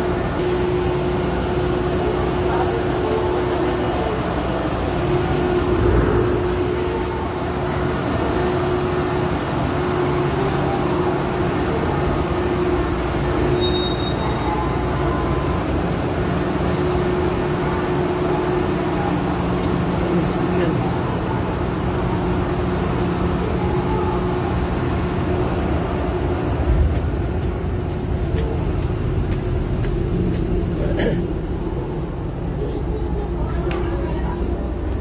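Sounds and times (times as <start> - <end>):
ferry machinery droning: 0.0 - 35.0.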